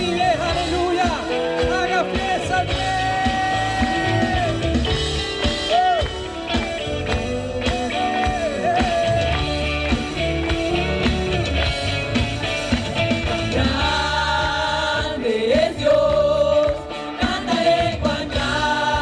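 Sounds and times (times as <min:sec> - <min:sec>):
upbeat band playing: 0:00.0 - 0:19.0.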